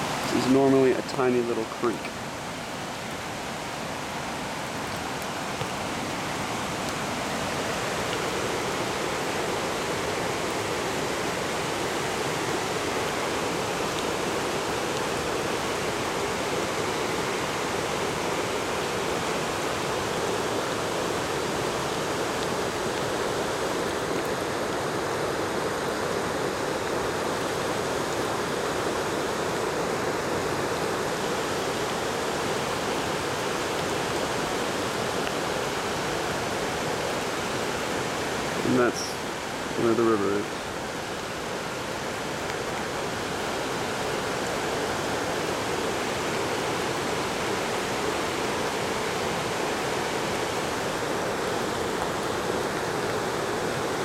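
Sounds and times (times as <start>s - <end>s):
flooded creek rushing: 0.0s - 54.0s.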